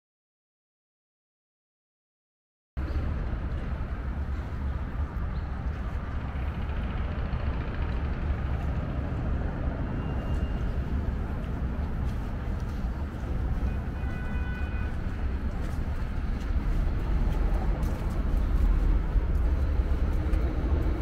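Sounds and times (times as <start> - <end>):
traffic rumble: 2.8 - 21.0.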